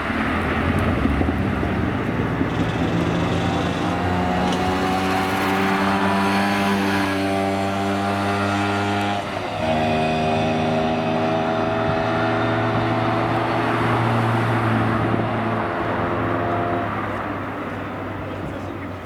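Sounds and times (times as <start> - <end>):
car engine at steady revs: 0.0 - 18.6.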